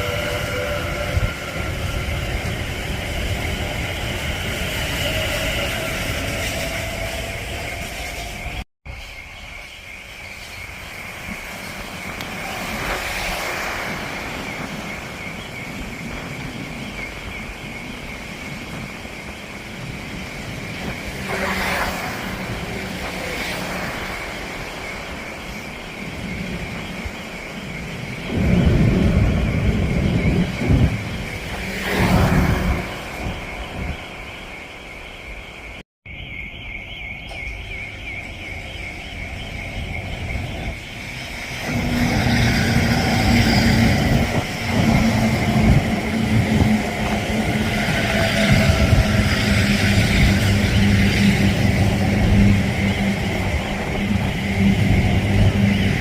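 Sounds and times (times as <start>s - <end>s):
wind buffeting microphone: 0.0s - 8.6s, 10.6s - 35.8s, 37.0s - 56.0s.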